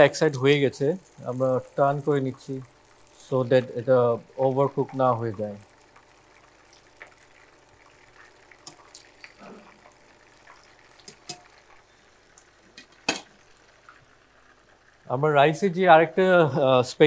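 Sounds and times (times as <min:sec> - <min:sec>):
meatballs sizzling in oil: 0:00.0 - 0:17.0.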